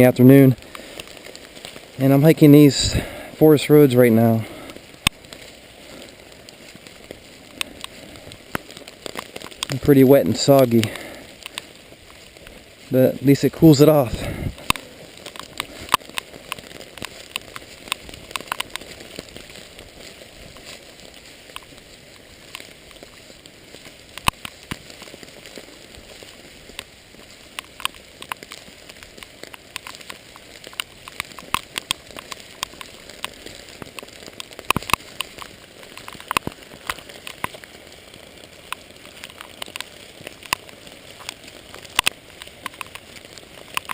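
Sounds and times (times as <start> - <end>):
raindrops tapping: 0.0 - 43.9
steady rain hiss: 0.0 - 43.9.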